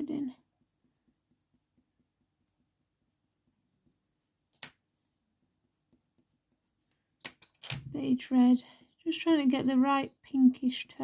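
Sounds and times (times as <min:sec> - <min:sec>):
pencil strokes on paper: 0:00.0 - 0:07.2, 0:08.0 - 0:11.0.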